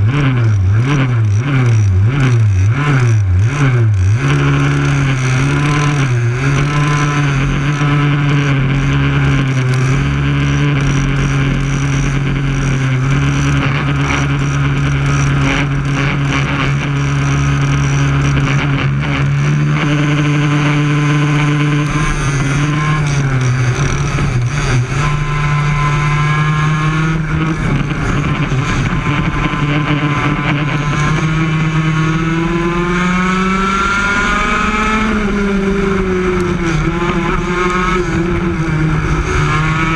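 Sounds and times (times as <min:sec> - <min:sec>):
kart engines running: 0:00.0 - 0:39.9.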